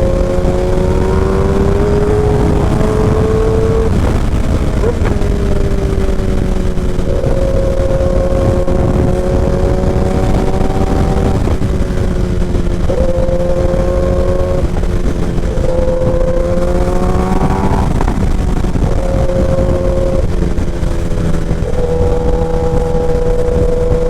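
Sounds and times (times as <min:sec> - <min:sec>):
motorcycle engine revving: 0:00.0 - 0:24.0
wind and road rumble: 0:00.0 - 0:24.0.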